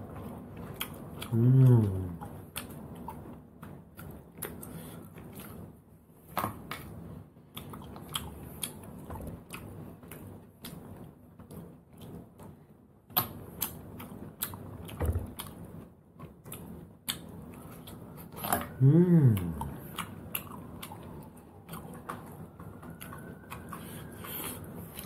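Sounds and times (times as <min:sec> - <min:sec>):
chewing: 0:00.0 - 0:05.7, 0:06.3 - 0:25.0.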